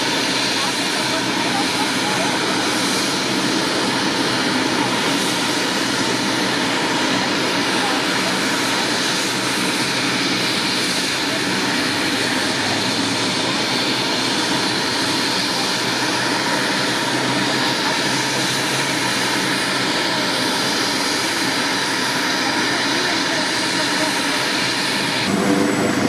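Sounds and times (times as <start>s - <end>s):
helicopter running: 0.0s - 26.0s.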